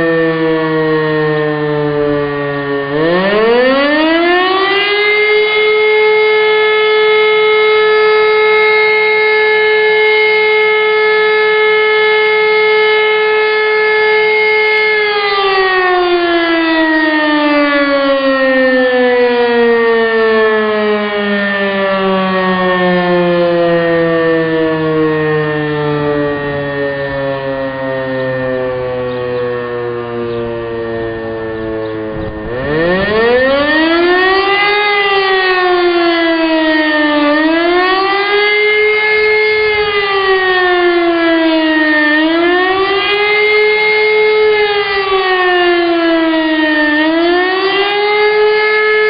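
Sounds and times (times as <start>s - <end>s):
electric motor siren wailing: 0.0s - 49.0s.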